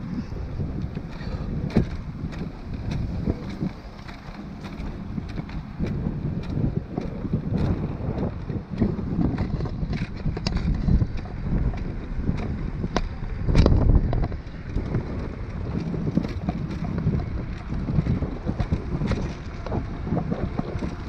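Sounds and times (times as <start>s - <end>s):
tyres rumbling on pavement: 0.0s - 21.0s
wind buffeting microphone: 0.0s - 21.0s
light clicks and rattles: 0.6s - 21.0s.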